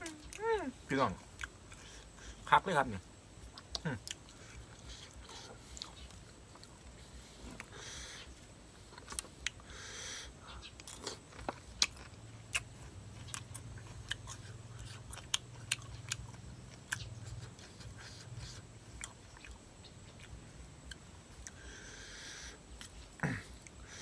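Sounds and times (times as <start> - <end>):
low steady hum: 0.0 - 24.0
person chewing crunchy food: 1.2 - 2.6, 3.3 - 9.7, 10.6 - 24.0.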